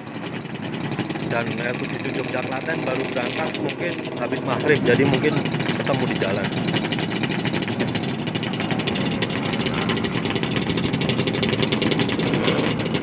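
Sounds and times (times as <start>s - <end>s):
two-stroke motorcycles idling: 0.0s - 13.0s.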